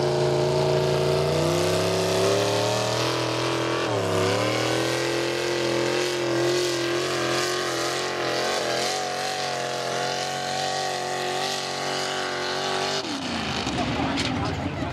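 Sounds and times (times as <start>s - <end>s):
truck engine under heavy load: 0.0s - 14.9s.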